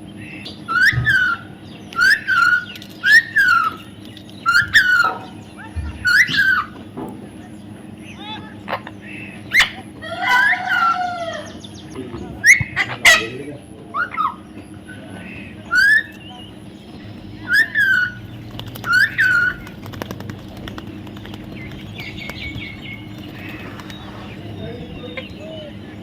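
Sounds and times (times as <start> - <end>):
parrot calling: 0.5 - 6.9, 8.0 - 14.5, 15.2 - 20.0, 21.2 - 26.0.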